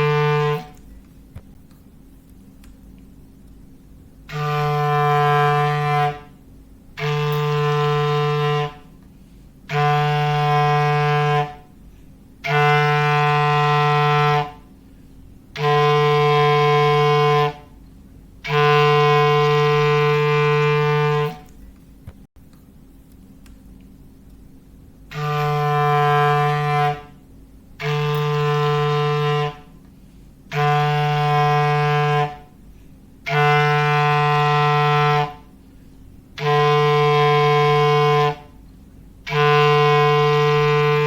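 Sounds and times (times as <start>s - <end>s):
foghorn blasts: 0.0s - 1.0s, 4.2s - 21.6s, 25.1s - 41.0s.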